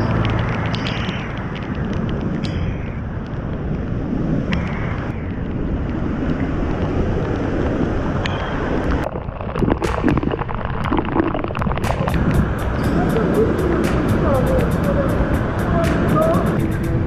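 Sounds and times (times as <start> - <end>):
water droplets hitting camera: 0.0 - 5.6, 8.2 - 17.0
waterfall rushing: 0.0 - 17.0.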